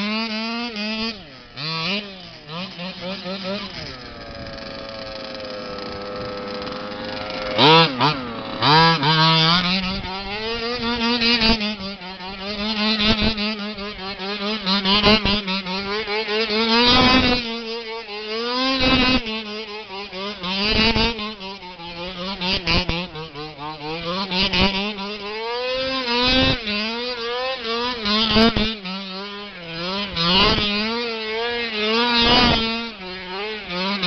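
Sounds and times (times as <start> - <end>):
rc truck engine running hard: 0.0 - 34.0.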